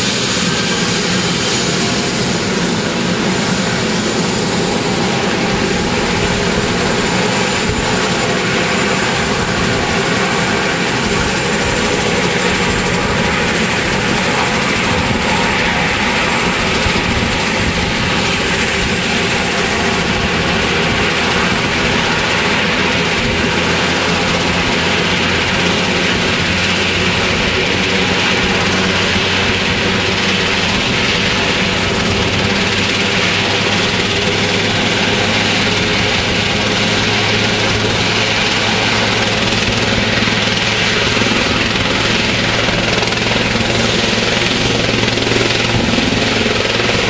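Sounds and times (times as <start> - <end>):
helicopter rotors rushing: 0.0 - 47.0
high turbine whine: 0.0 - 47.0.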